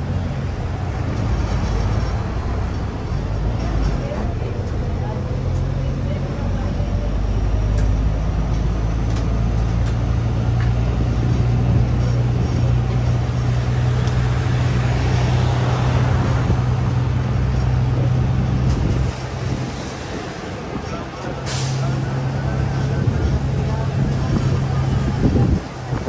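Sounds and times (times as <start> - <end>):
bus engine droning: 0.0 - 26.0
road and wind noise: 0.0 - 26.0.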